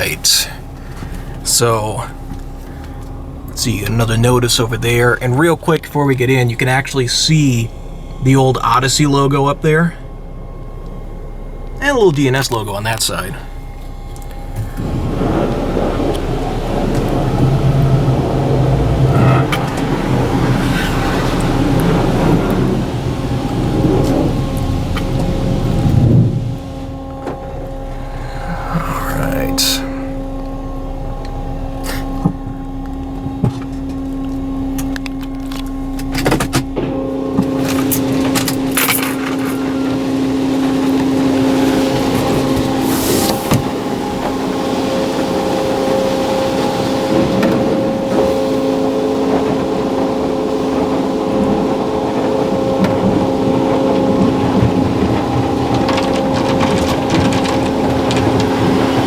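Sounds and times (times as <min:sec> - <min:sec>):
car engine running: 0:00.0 - 0:59.0
hissing water spray: 0:00.0 - 0:59.0
low hum: 0:00.0 - 0:59.0
steady rushing noise: 0:00.0 - 0:59.0.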